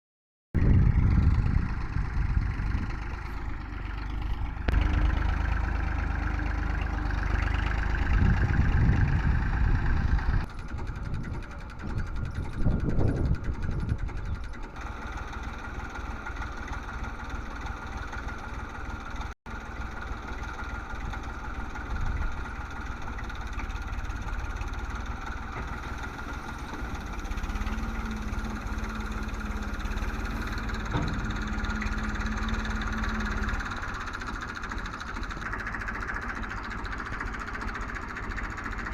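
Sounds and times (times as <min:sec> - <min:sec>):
tractor engine running: 0:00.6 - 0:38.9.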